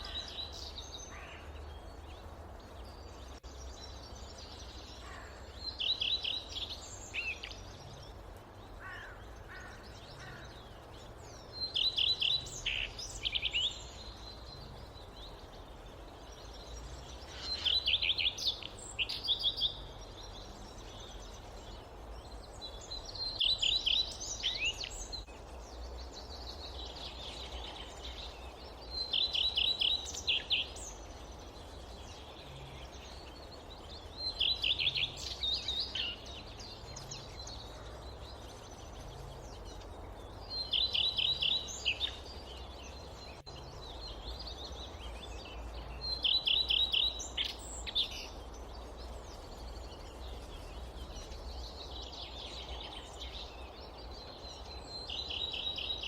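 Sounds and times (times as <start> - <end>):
forest ambience: 0.0 - 56.0.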